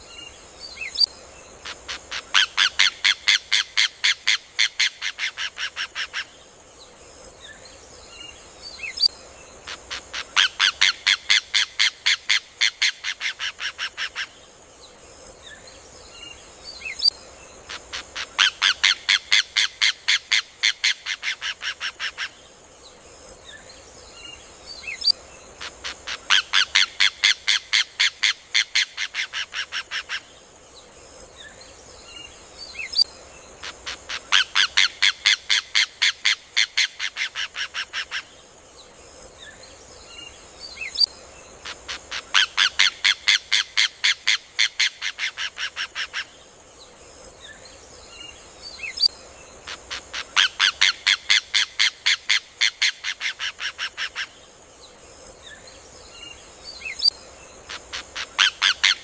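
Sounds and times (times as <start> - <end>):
faint high hiss: 0.0 - 59.0.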